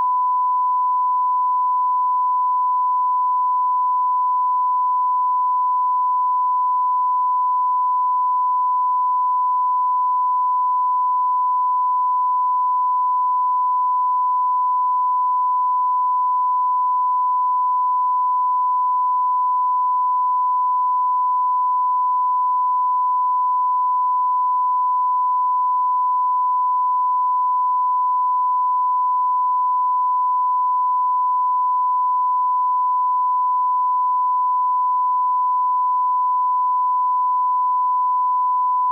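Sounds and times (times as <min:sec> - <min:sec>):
censor bleep tone: 0:00.0 - 0:38.9.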